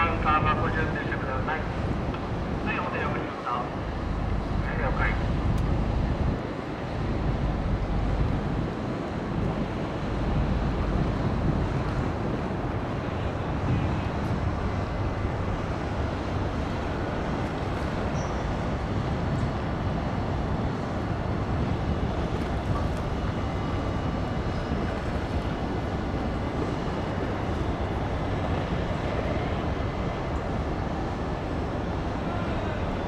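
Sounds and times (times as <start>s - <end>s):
boat diesel engine rumbling: 0.0s - 33.0s.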